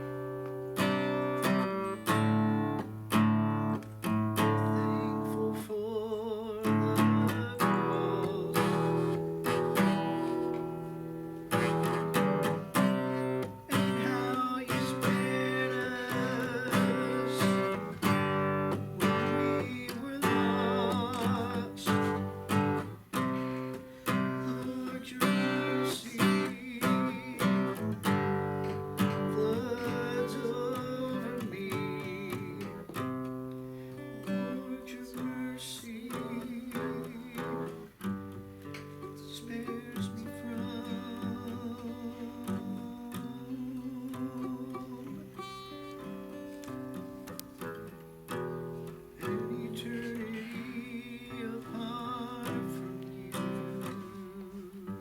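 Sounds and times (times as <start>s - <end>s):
person singing: 0.0s - 55.0s
strummed acoustic guitar: 0.0s - 55.0s.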